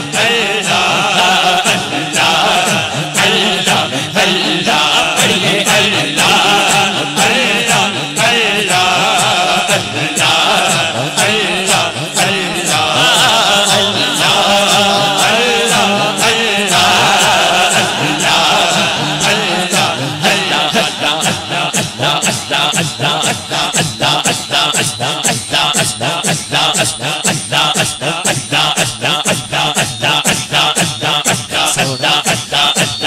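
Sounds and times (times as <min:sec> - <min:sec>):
men chanting through loudspeakers: 0:00.0 - 0:33.0.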